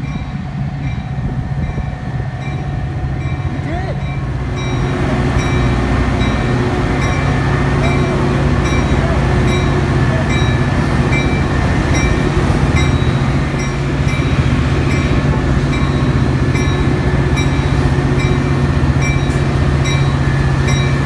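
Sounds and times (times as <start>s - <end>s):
diesel locomotive engine hum: 0.0s - 21.0s
locomotive bell ringing: 0.0s - 21.0s.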